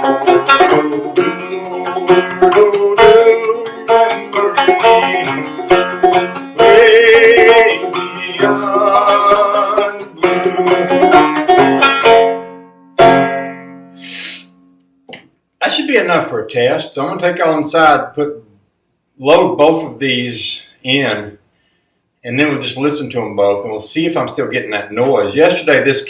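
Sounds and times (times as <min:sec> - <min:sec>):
banjo plucking and strumming: 0:00.0 - 0:18.2, 0:22.3 - 0:26.0.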